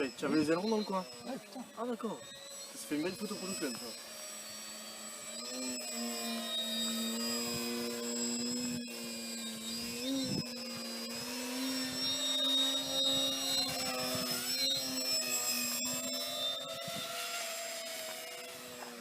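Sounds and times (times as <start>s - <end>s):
electric propeller motors whining: 0.0s - 19.0s.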